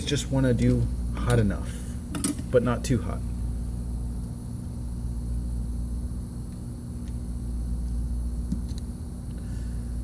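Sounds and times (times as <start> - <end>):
hot air station blowing hum: 0.0 - 10.0.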